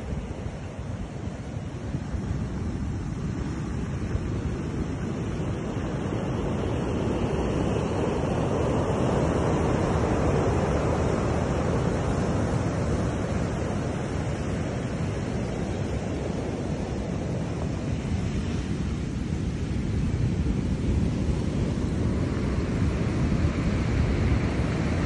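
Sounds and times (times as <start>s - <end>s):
ocean surf washing up pebble beach: 0.0s - 25.0s.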